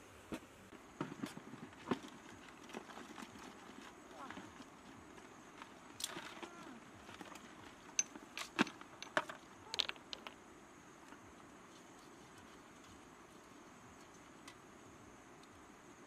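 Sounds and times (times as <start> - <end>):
faint high hiss: 0.0 - 2.4, 3.8 - 16.0.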